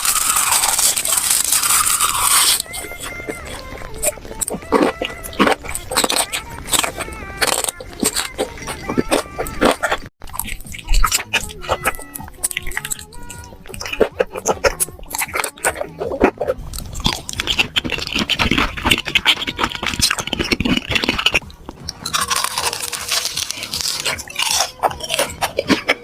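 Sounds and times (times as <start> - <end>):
crunchy food being chewed: 0.0 - 26.0.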